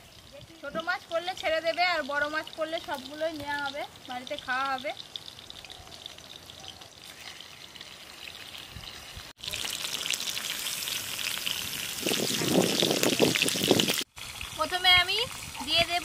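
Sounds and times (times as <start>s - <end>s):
faint outdoor background: 0.0s - 16.0s
fish sizzling in hot oil: 0.0s - 16.0s.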